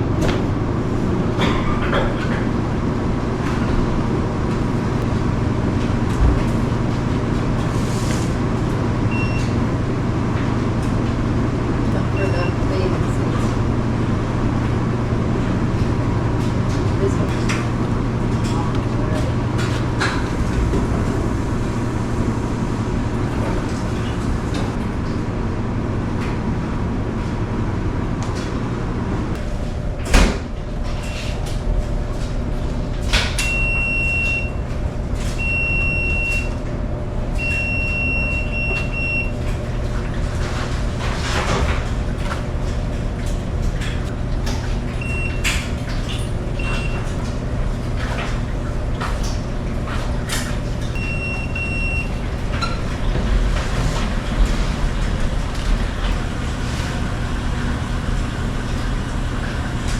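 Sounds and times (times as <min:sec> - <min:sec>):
washing machines humming: 0:00.0 - 0:59.9.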